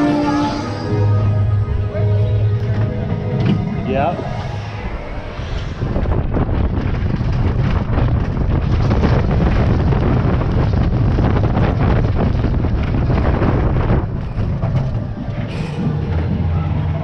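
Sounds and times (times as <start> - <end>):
low rumble and clatter: 0.0 - 17.0
wind buffeting microphone: 2.9 - 17.0.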